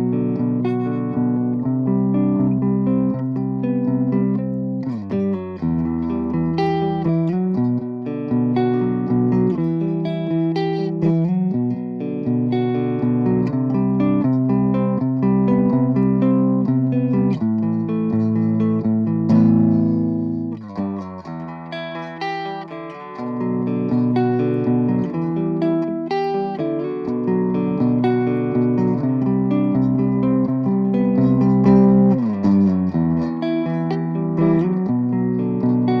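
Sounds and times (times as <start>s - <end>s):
electric guitar through amplifier: 0.0s - 36.0s.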